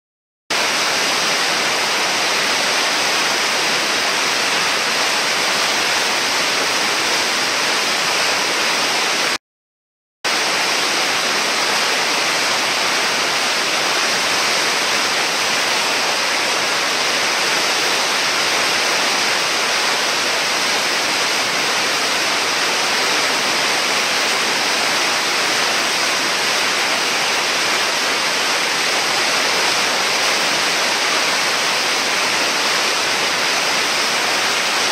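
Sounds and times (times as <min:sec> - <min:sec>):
whitewater roaring: 0:00.6 - 0:09.4, 0:10.3 - 0:34.9.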